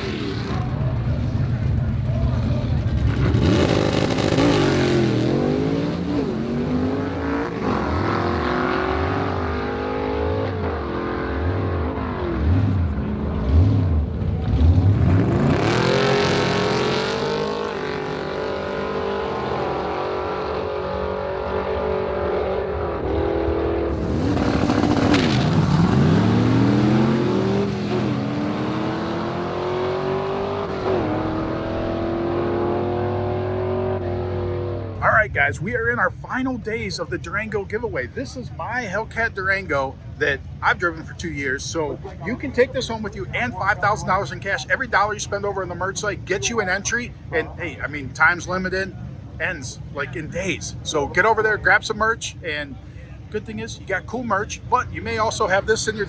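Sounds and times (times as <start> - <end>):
race car engine revving: 0.0 - 52.7.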